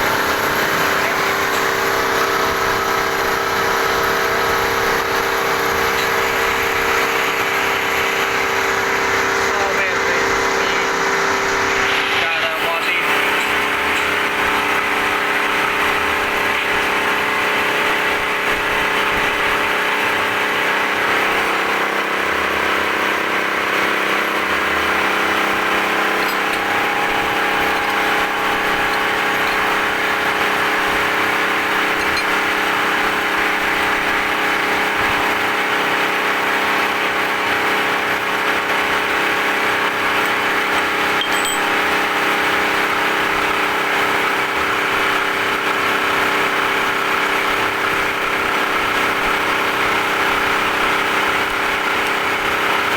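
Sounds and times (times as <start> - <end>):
metal lathe humming: 0.0 - 52.9.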